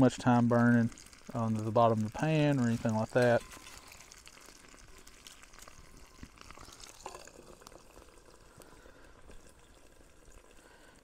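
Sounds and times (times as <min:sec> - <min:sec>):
campfire crackling: 0:00.0 - 0:11.0
food sizzling in a pan: 0:00.0 - 0:11.0.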